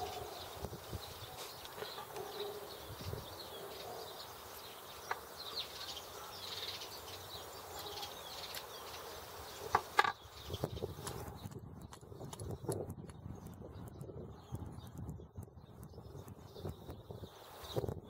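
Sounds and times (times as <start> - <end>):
birds chirping: 0.0 - 18.0
outdoor hush: 0.0 - 18.0.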